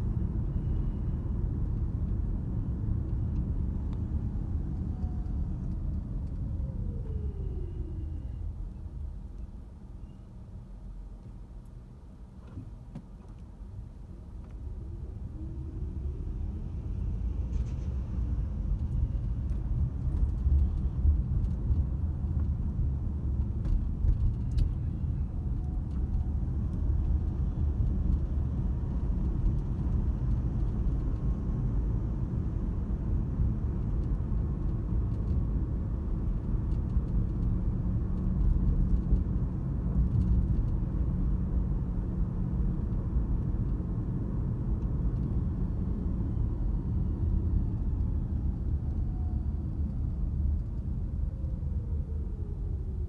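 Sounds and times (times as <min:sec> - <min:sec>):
car driving interior rumble: 0:00.0 - 0:53.0.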